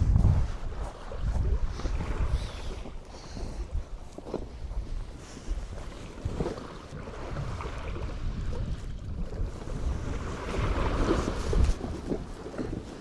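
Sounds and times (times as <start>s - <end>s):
ocean waves washing onto beach: 0.0s - 13.0s
wind buffeting microphone: 0.0s - 13.0s.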